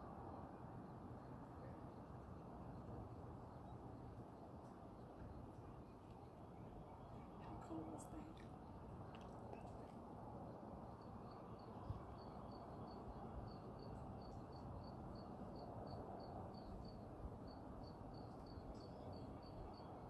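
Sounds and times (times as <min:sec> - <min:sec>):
insect chirping: 0:00.0 - 0:20.0
low steady background hiss: 0:00.0 - 0:20.0.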